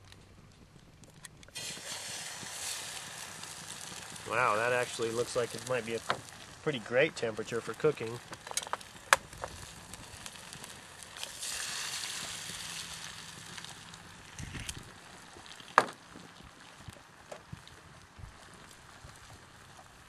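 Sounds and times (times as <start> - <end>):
egg sizzling in pan: 1.5 - 20.0.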